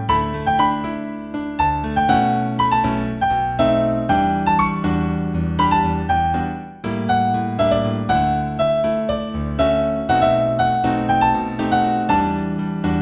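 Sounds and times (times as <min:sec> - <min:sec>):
new-age electric piano music: 0:00.0 - 0:13.0.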